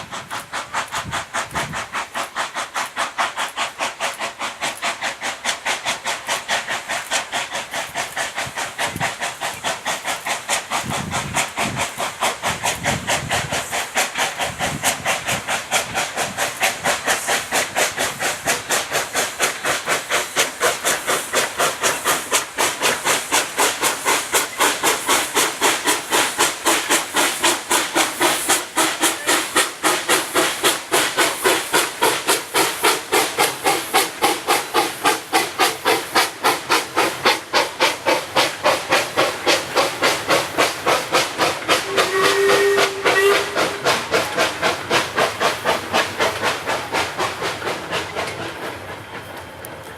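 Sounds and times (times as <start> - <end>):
steam hissing: 0.0 - 49.9
steam locomotive chuffing: 0.0 - 49.9.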